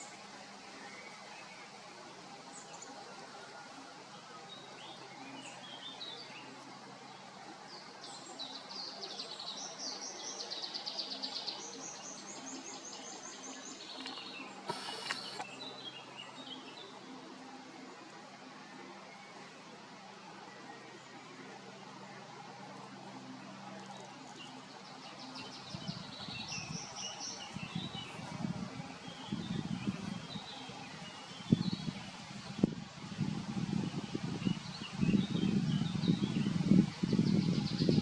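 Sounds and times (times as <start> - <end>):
songbirds chirping and trilling: 0.0 - 38.0
steady background hiss: 0.0 - 38.0.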